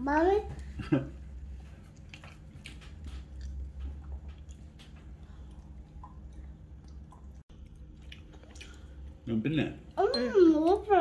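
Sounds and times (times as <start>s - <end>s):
steady low hum: 0.0s - 11.0s
faint chewing: 0.6s - 10.0s.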